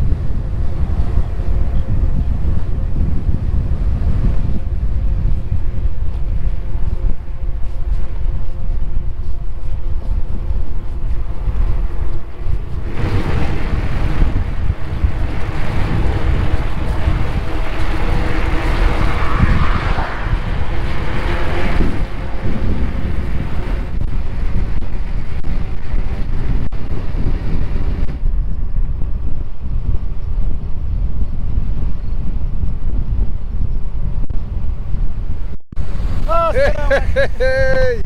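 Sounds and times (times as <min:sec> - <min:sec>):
vehicle engine and road rumble: 0:00.0 - 0:38.0
wind buffeting microphone: 0:00.0 - 0:38.0.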